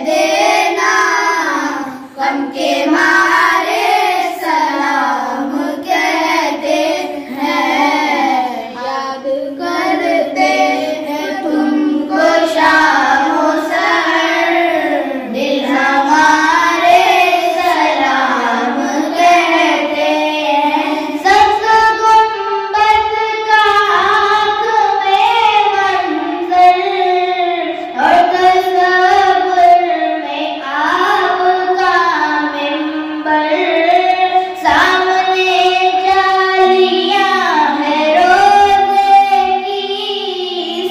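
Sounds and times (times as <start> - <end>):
boy singing unaccompanied: 0.0 - 40.9.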